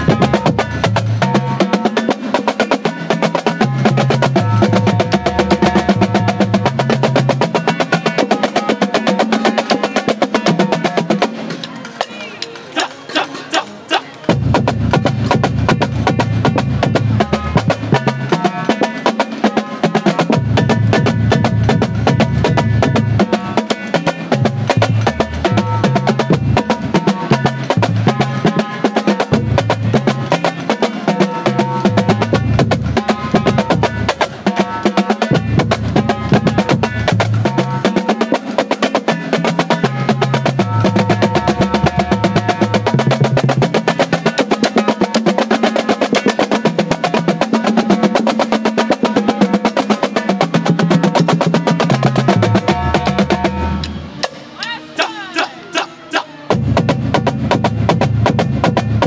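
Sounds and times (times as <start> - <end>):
snare drums: 0.0 - 59.0
tenor drums: 0.0 - 59.0.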